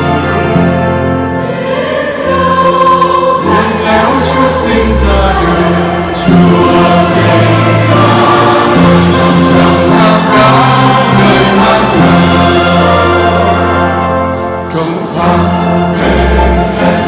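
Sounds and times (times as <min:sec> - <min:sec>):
choir singing held notes: 0:00.0 - 0:17.0
instrumental accompaniment: 0:00.0 - 0:17.0.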